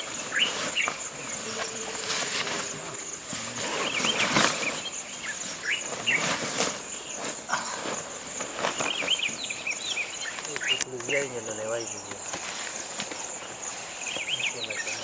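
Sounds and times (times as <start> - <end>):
birds chirping: 0.0 - 15.0
high-pitched insect drone: 0.0 - 15.0
rustling: 0.0 - 15.0.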